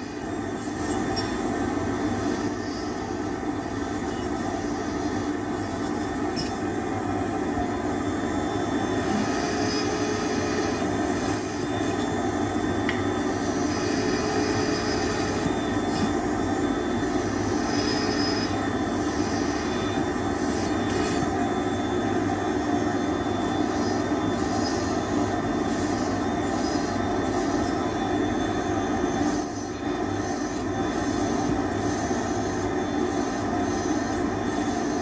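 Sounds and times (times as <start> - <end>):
dental micromotor whine: 0.0 - 35.0.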